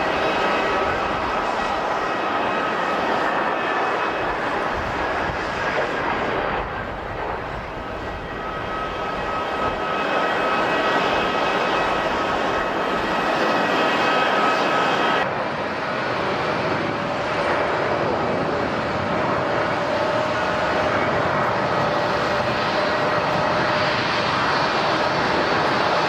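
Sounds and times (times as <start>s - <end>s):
jet engines roaring with high whine: 0.0s - 26.0s.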